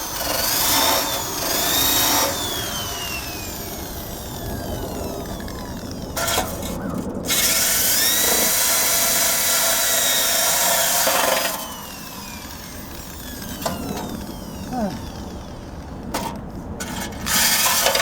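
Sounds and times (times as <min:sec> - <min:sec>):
power drill wire brush scrubbing: 0:00.0 - 0:18.0.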